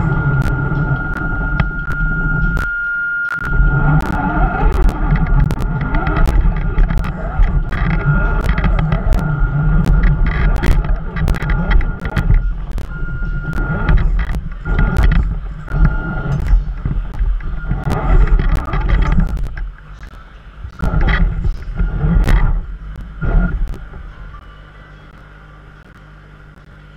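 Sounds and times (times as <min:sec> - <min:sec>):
wind rumble on microphone: 0:00.0 - 0:02.7, 0:03.4 - 0:24.4
clicks and knocks of wheels: 0:00.0 - 0:24.4
electric motor whining: 0:00.0 - 0:24.4.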